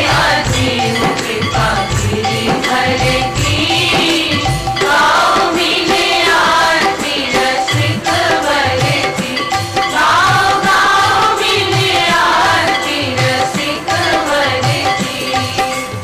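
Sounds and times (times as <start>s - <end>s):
tabla and percussion: 0.0s - 16.0s
voices singing a hymn: 0.0s - 16.0s.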